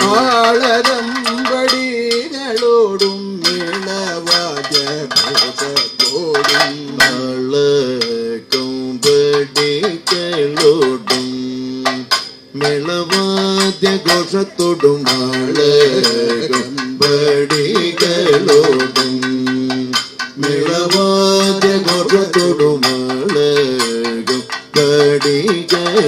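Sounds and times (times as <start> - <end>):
drum strokes: 0.0 - 26.0
gong and cymbal beats: 0.0 - 26.0
person singing wavering notes: 0.0 - 26.0.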